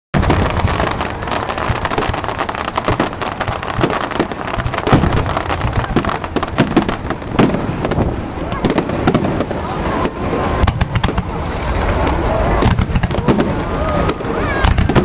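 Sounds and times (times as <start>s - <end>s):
fireworks crackling: 0.1s - 15.0s
heavy firework bangs: 0.2s - 15.0s.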